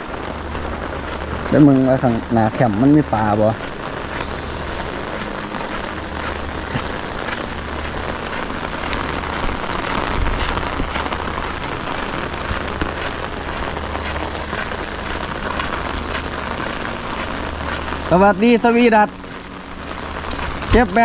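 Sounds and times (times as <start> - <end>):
rain falling on water: 0.0 - 21.0.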